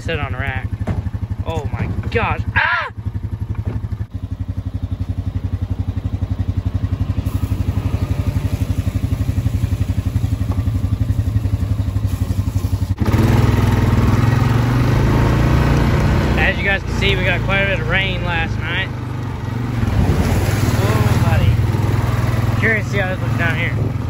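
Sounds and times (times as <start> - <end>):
atv engine: 0.0 - 24.0.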